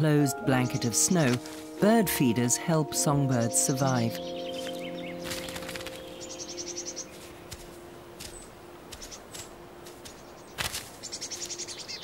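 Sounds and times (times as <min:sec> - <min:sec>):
tits calling: 0:00.0 - 0:12.0.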